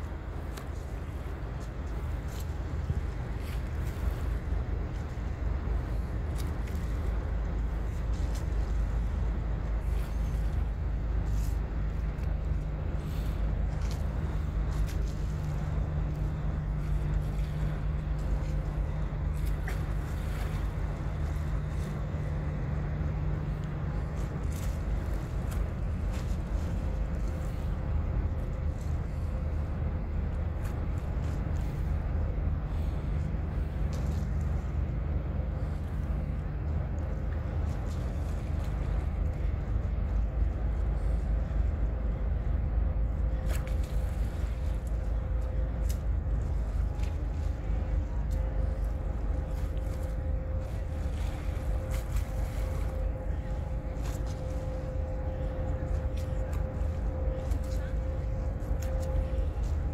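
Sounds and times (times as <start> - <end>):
faint constant hum: 0.0 - 59.9
ship engines droning: 0.0 - 59.9.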